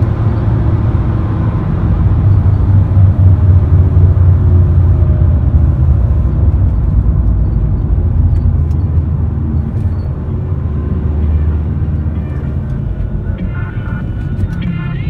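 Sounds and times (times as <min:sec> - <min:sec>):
diesel van engine rumble: 0:00.0 - 0:15.0
road noise: 0:00.0 - 0:15.0.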